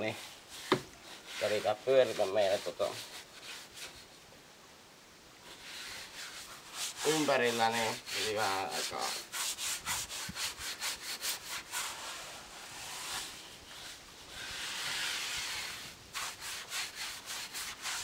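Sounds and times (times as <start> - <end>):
sandpaper rubbing on wood: 0.0 - 4.1, 5.5 - 18.0.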